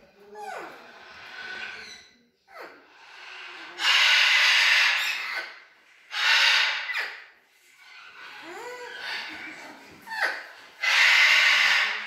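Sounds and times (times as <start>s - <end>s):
parrot screeching: 0.4s - 12.0s.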